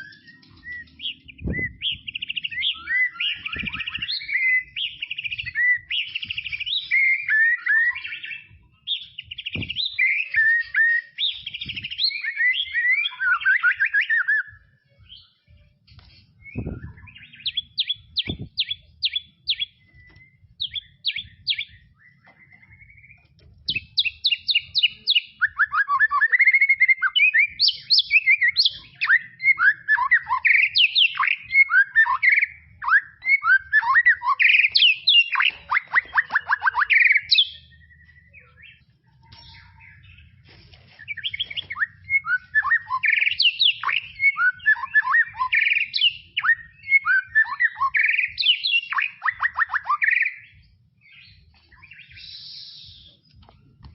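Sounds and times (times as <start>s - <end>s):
bird whistled warbling song: 0.0s - 53.6s.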